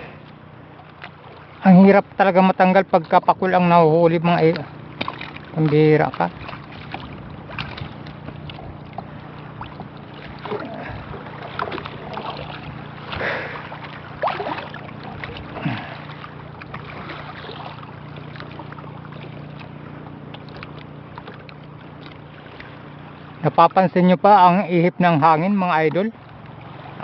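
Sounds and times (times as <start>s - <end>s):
low hum: 0.0s - 24.3s
boat knocking and creaking: 0.0s - 27.0s
water against boat hull: 0.0s - 27.0s
wind: 0.0s - 27.0s.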